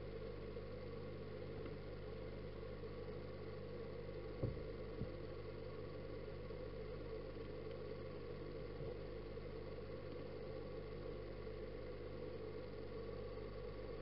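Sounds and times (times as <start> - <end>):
aquarium pump hum underwater: 0.0 - 14.0.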